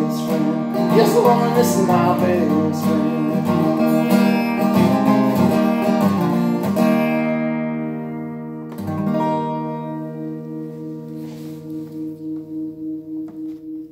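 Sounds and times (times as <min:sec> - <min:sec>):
acoustic guitar strumming: 0:00.0 - 0:13.9.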